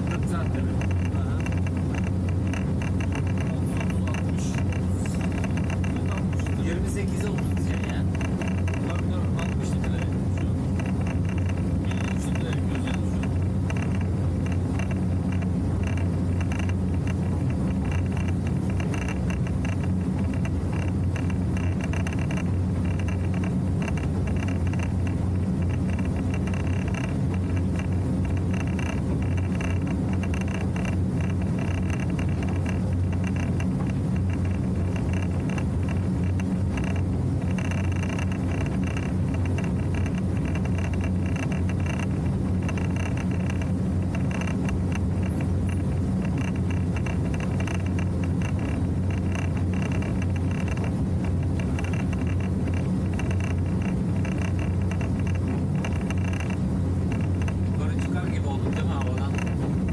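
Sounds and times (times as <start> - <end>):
motorboat engine drone: 0.0 - 59.9
water rushing along hull: 0.0 - 59.9.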